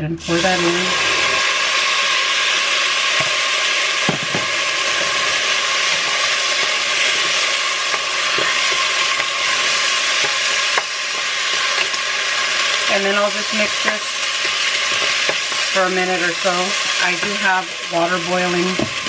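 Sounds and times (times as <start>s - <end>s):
rice sizzling in oil: 0.2s - 19.0s.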